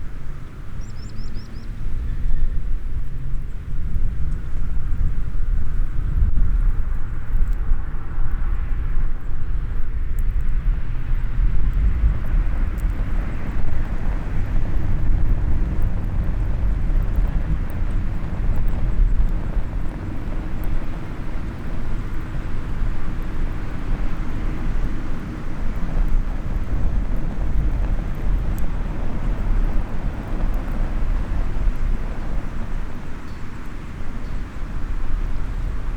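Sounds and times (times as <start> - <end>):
low outdoor rumble: 0.0 - 35.9
small wood fire crackling: 0.0 - 35.9.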